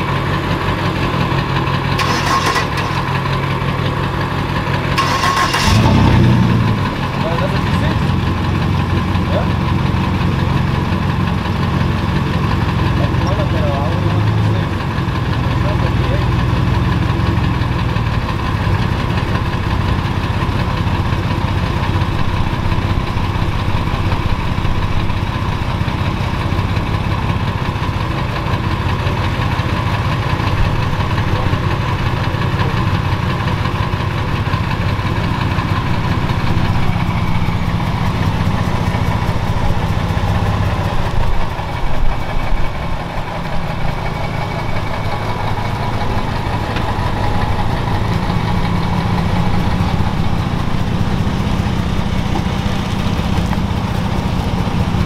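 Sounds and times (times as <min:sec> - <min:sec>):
clattery pickup engine idling: 0:00.0 - 0:55.0.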